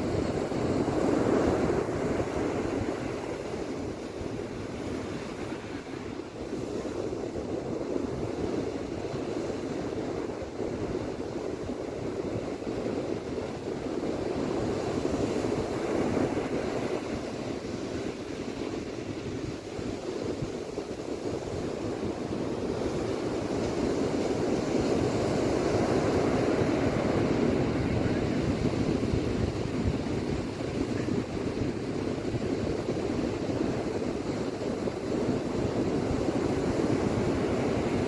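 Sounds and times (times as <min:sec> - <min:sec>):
ocean waves breaking on beach: 0:00.0 - 0:38.0
wind rumbling on microphone: 0:00.0 - 0:38.0.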